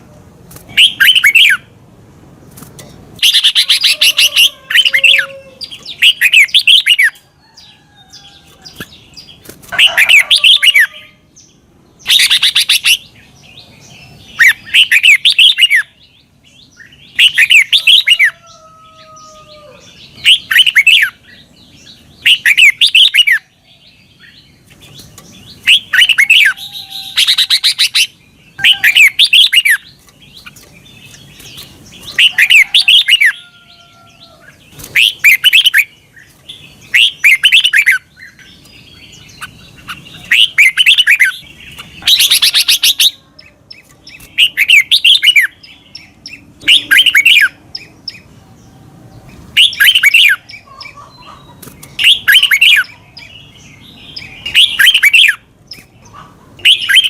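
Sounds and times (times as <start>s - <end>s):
bulbul singing warbling phrases: 0.0s - 1.8s, 3.2s - 7.2s, 8.2s - 18.6s, 19.6s - 33.6s, 34.3s - 48.4s, 49.3s - 57.0s.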